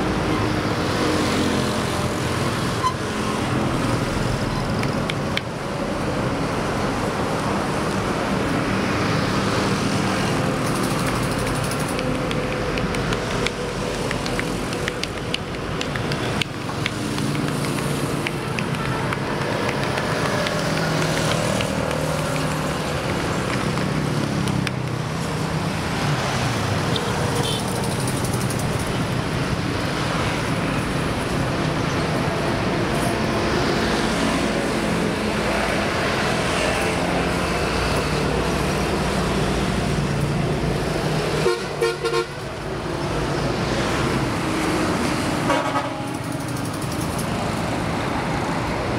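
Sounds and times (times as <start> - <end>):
heavy highway traffic roar: 0.0 - 48.9.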